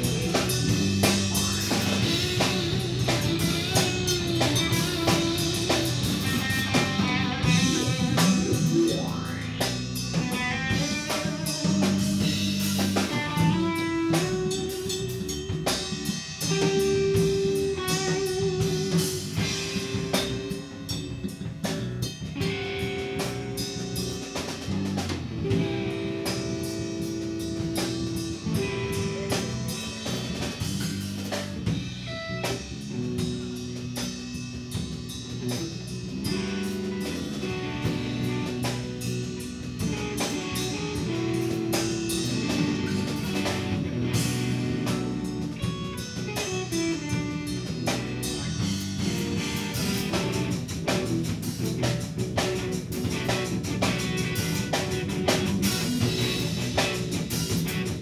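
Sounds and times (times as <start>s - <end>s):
electric guitar notes: 0.0s - 58.0s
steady drumming: 0.0s - 58.0s.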